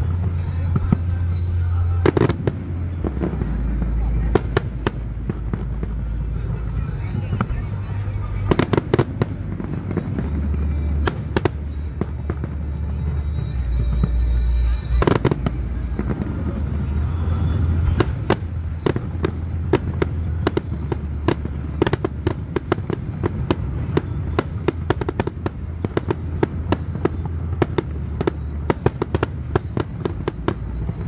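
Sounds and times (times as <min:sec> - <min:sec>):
rapid firework crackling: 0:00.0 - 0:31.0
steady low rumble: 0:00.0 - 0:31.0.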